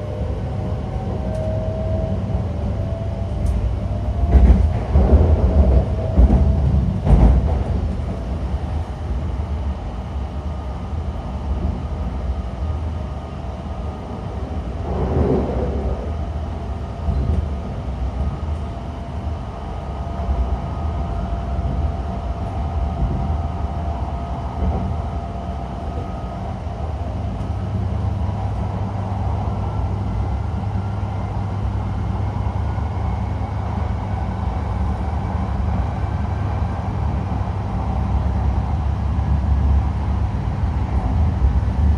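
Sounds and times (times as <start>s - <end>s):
train wheel and rail rumble: 0.0s - 41.9s.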